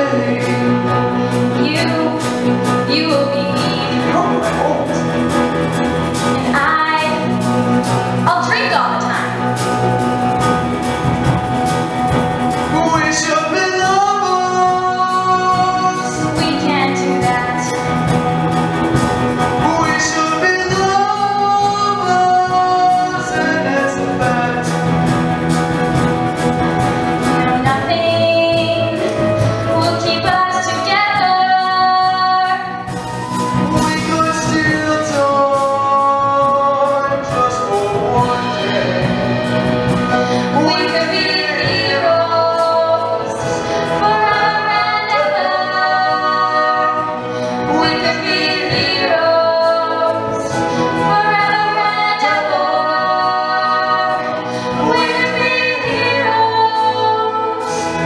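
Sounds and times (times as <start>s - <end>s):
man and woman singing a duet: 0.0s - 5.3s, 12.6s - 18.2s, 19.5s - 25.2s, 27.3s - 58.0s
musical accompaniment: 0.0s - 58.0s.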